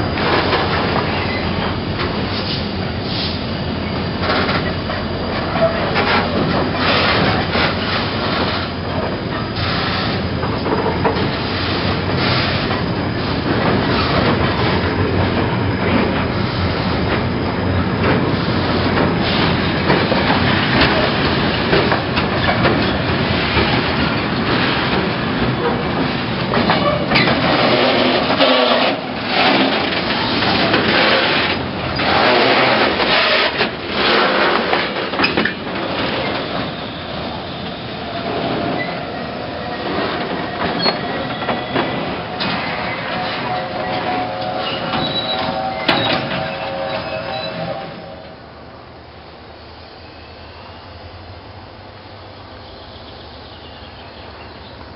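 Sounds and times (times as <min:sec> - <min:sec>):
train wheels clacking over rail joints: 0:00.0 - 0:48.0
freight train rumble and rattle: 0:00.0 - 0:54.9.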